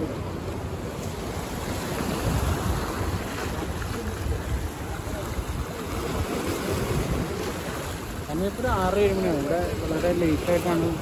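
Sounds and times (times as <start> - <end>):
sea waves washing: 0.0 - 11.0
wind rumbling on microphone: 0.0 - 11.0.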